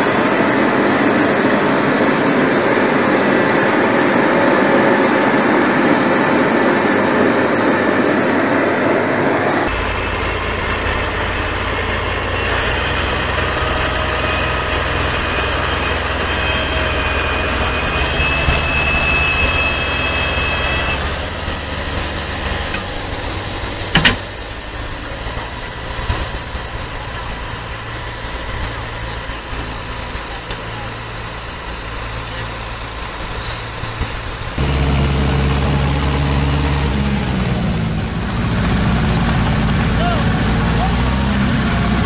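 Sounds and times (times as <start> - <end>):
diesel engine whining and rumbling: 0.0 - 42.0.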